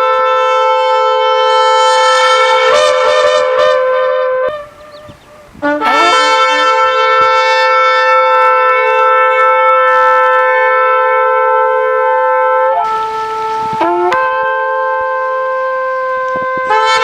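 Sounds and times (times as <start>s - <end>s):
ram's-horn trumpet blast: 0.0s - 17.0s.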